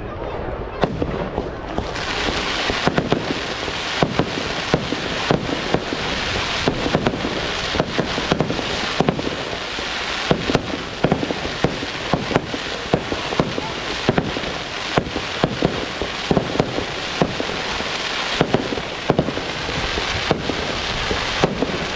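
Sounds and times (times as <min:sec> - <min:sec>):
crackling fireworks hiss: 0:00.6 - 0:21.9
firework bangs: 0:00.7 - 0:21.9.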